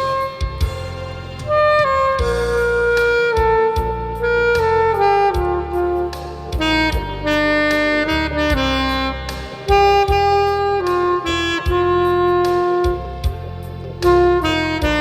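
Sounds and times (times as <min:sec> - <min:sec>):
low sustained accompaniment: 0:00.0 - 0:15.0
saxophone melody: 0:00.0 - 0:15.0.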